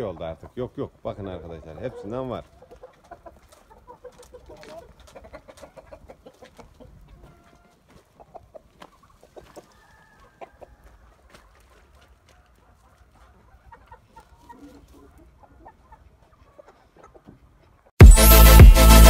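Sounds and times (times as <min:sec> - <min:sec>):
chickens clucking: 0:00.0 - 0:17.9.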